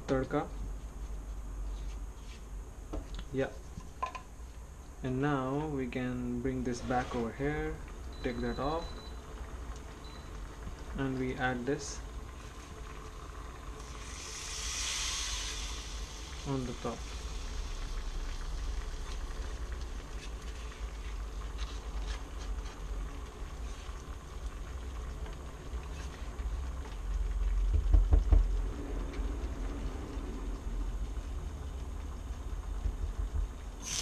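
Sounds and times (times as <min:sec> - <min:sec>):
hot oil sizzling: 0:06.7 - 0:34.0.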